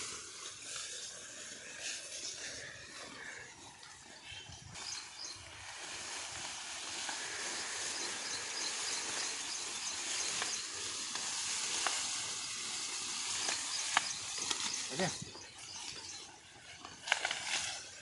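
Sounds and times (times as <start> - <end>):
leaves rustling: 0.0 - 18.0.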